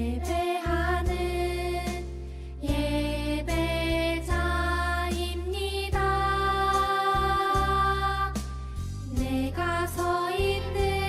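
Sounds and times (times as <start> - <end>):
backing track with bass line: 0.0 - 11.0
children's worship song: 0.0 - 11.0.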